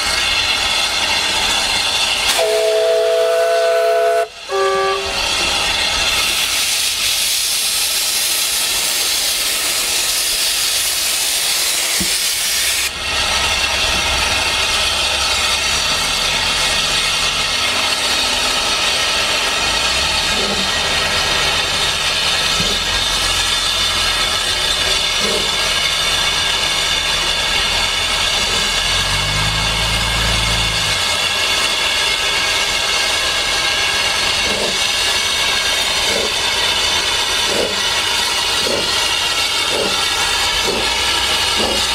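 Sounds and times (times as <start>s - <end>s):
loud sharp steam hiss: 0.0s - 41.9s.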